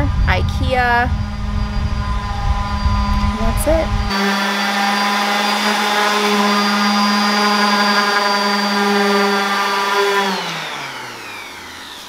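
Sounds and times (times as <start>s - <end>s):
orbital sander whining: 0.0s - 12.0s.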